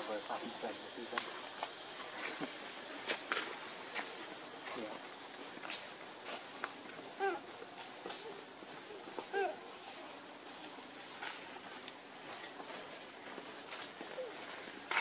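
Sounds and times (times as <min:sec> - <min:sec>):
forest insects buzzing: 0:00.0 - 0:15.0.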